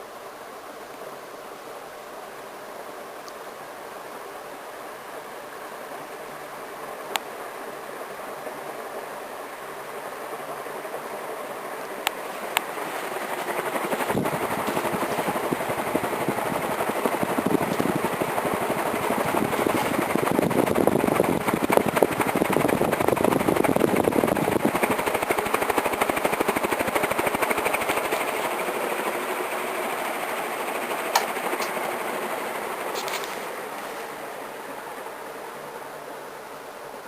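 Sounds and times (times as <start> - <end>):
ceiling fan air rushing: 0.0 - 37.0.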